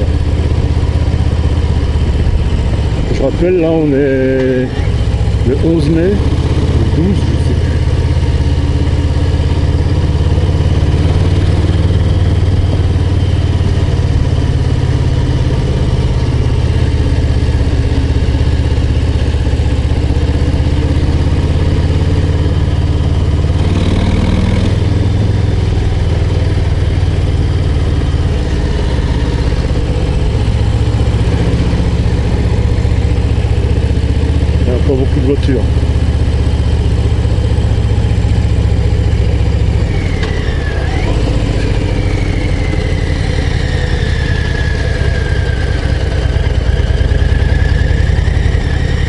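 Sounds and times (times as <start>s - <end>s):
motorcycle engine at low revs: 0.0s - 49.0s.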